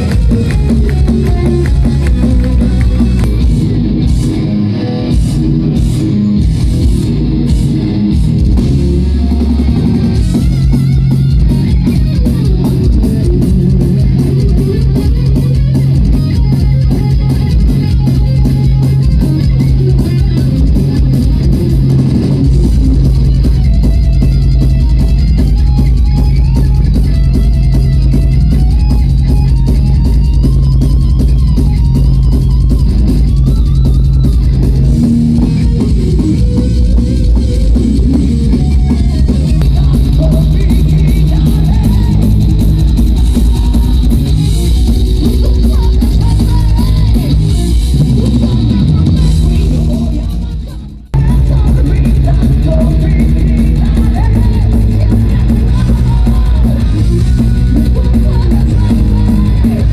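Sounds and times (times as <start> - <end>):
fast drum beat: 0.0 - 4.4, 5.2 - 59.9
heavy metal band playing: 0.0 - 59.9.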